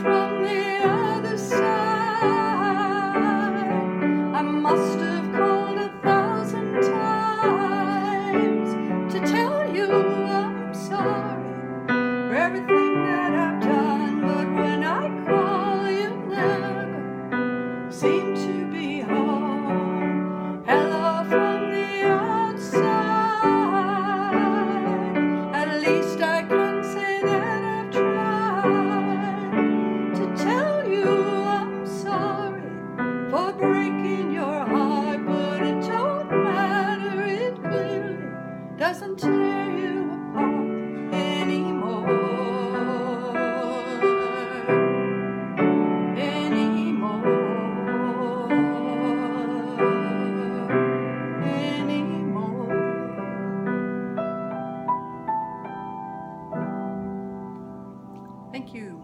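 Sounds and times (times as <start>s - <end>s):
woman singing a slow ballad: 0.0s - 54.1s
piano chords: 0.0s - 59.0s.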